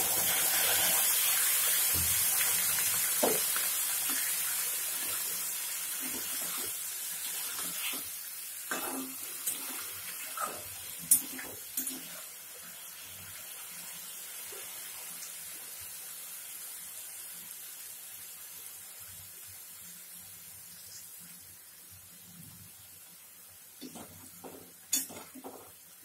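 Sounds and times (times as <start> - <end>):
pan simmering: 0.0 - 26.0.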